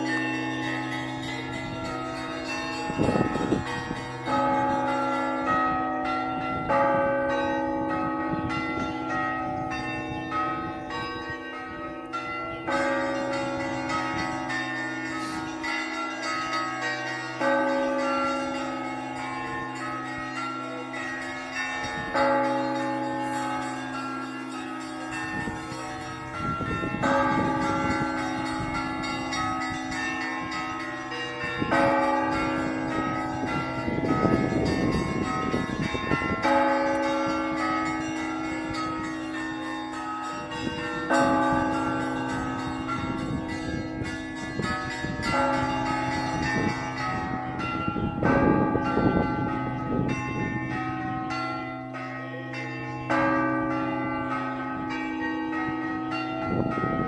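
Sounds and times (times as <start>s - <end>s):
deep hum of large bells: 0.0s - 57.0s
heavy bell struck: 0.0s - 57.0s
small church bells chiming: 0.0s - 57.0s.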